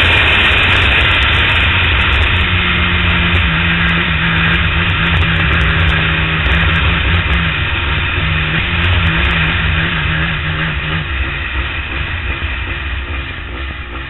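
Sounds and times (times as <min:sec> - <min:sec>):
motorcycle engine running: 0:00.0 - 0:14.0
rushing air noise: 0:00.0 - 0:14.0.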